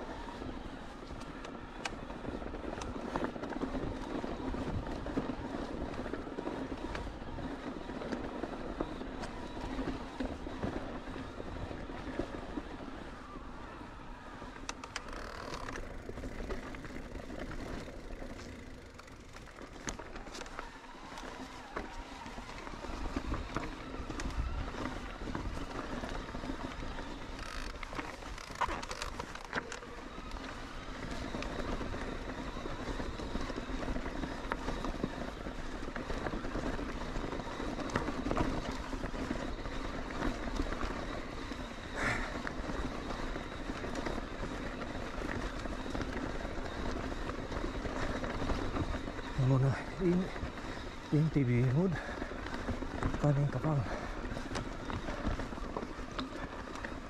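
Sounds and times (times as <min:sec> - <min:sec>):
bike clicking and rattling: 0:00.0 - 0:57.0
bike tyres rolling over dirt: 0:00.0 - 0:57.0.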